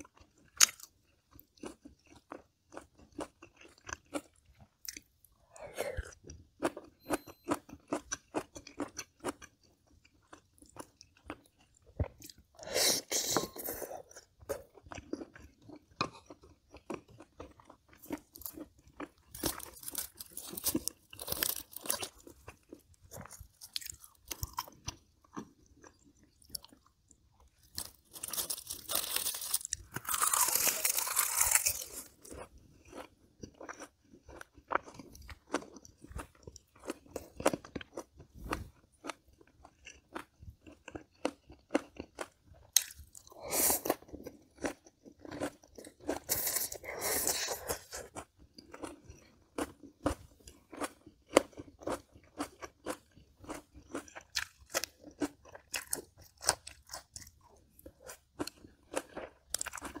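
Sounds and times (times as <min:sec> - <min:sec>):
chewing crisp food: 0:00.0 - 1:00.0.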